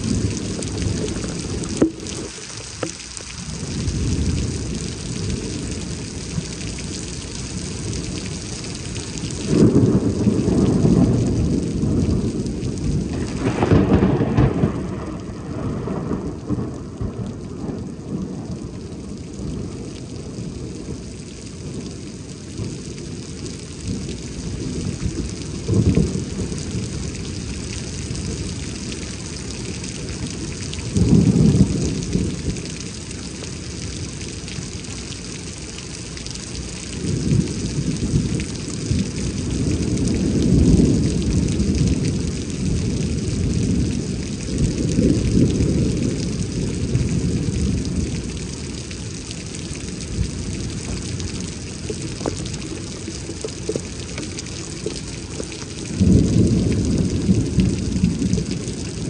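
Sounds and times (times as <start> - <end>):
thunder rumbling: 0.0 - 35.2, 36.4 - 59.0
rain falling: 0.0 - 59.0.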